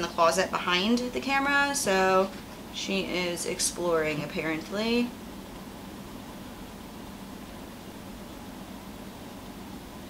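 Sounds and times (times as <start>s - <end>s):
faint low hum: 0.0s - 10.0s
room hiss: 0.0s - 10.0s.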